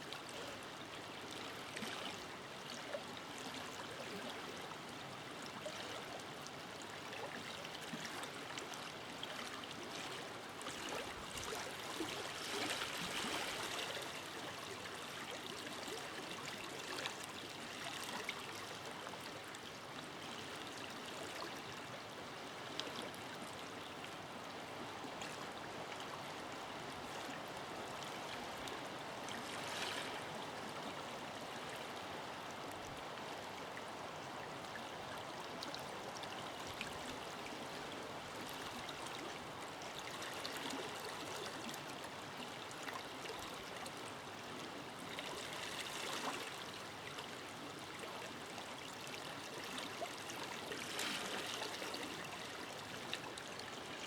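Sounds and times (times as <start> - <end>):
river flowing over stones: 0.2 - 54.0.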